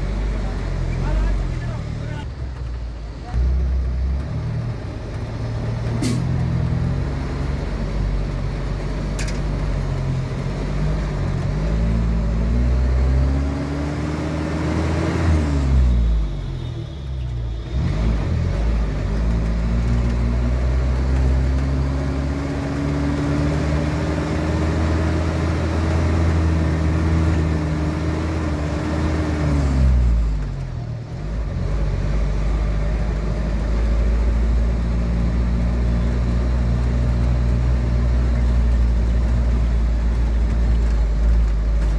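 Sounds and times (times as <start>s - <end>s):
vehicle engine running: 0.0s - 14.4s, 15.8s - 41.9s.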